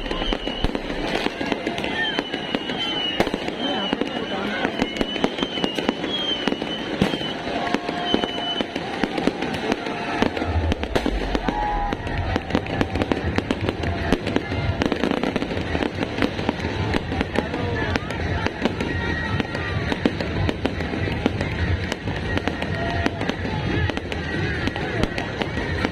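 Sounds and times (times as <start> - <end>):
deep firework booms: 0.0 - 25.9
firework cracks and pops: 0.0 - 25.9.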